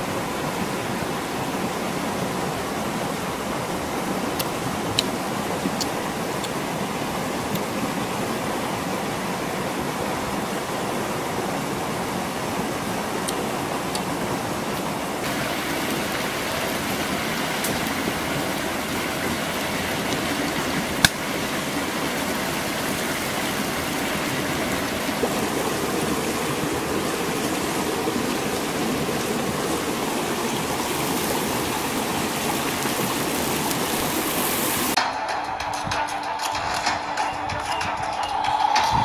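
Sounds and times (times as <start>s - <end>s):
creek rushing over rocks: 0.0s - 35.1s.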